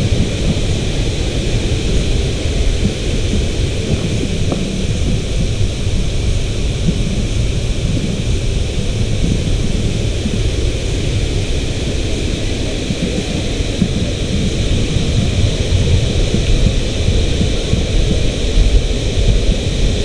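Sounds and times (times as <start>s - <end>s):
river water roaring: 0.0s - 20.0s.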